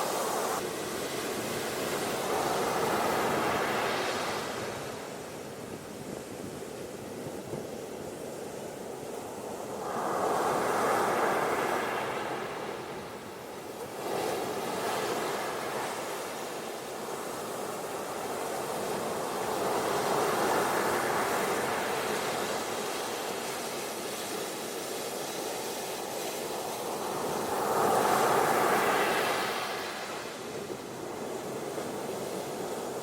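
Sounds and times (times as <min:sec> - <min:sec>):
ocean surf washing onto beach: 0:00.0 - 0:06.3, 0:08.6 - 0:33.0.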